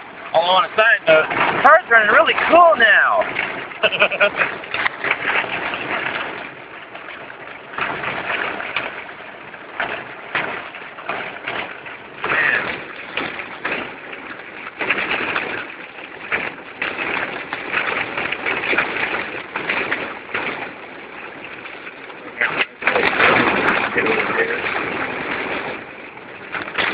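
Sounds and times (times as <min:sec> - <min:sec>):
rain on a moving car: 0:00.0 - 0:26.9.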